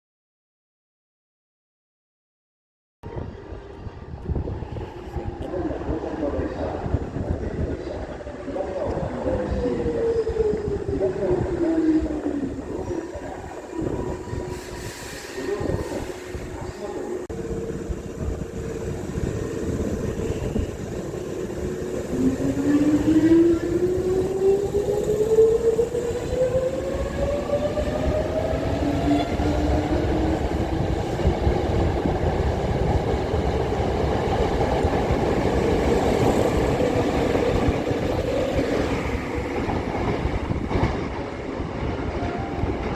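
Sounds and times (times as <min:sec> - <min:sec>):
train wheels rumbling on rails: 0:03.1 - 0:42.9.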